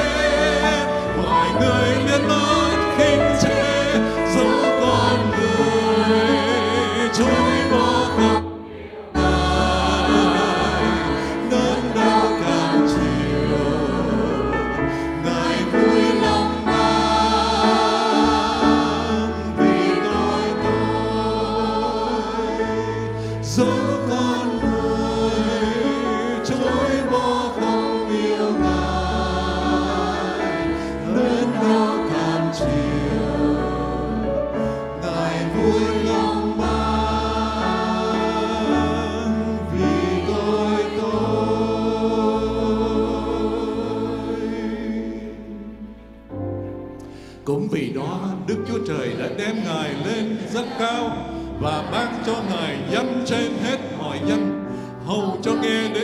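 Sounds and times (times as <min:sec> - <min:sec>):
choir singing a worship song: 0:00.0 - 0:56.0.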